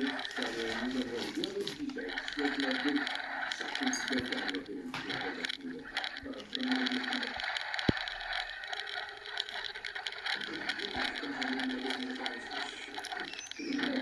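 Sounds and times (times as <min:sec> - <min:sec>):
toy truck motor running: 0:00.0 - 0:14.0
tyres scraping on ground: 0:00.0 - 0:14.0.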